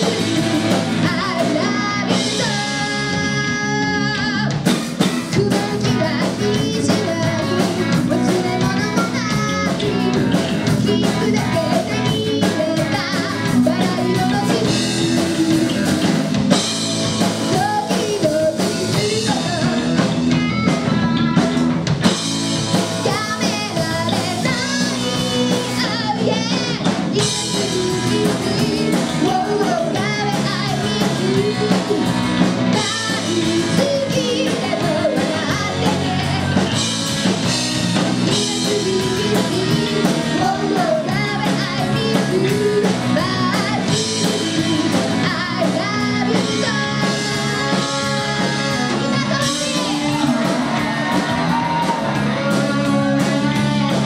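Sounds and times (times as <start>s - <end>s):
person singing lead vocal: 0.0s - 21.5s, 22.8s - 54.0s
drum kit: 0.0s - 54.0s
electric guitar: 0.0s - 54.0s.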